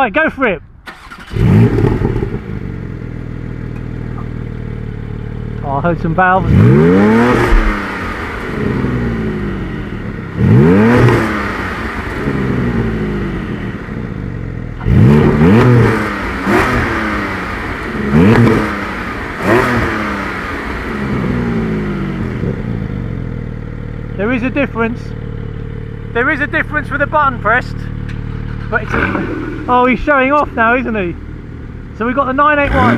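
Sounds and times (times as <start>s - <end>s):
car engine revving and idling: 0.9s - 32.9s.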